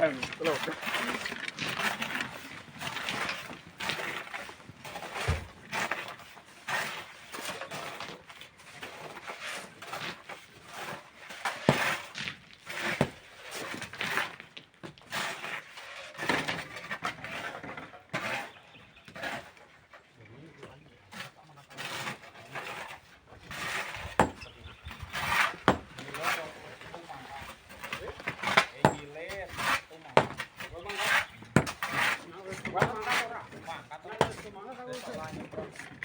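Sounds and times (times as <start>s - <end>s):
hand tools scraping sand and stone: 0.0s - 20.1s, 20.7s - 36.0s.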